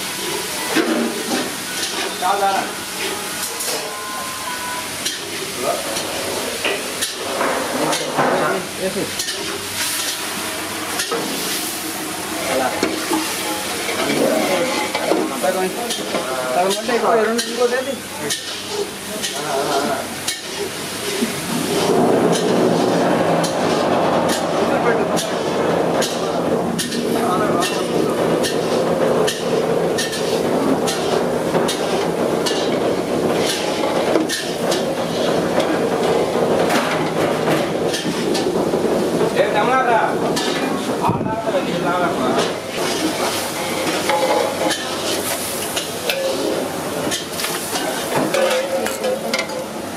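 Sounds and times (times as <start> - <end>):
food sizzling in hot oil: 0.0 - 49.9
stall background noise: 0.0 - 49.9
metal cooking utensils clanking: 0.2 - 10.3, 12.4 - 41.0, 41.6 - 49.8.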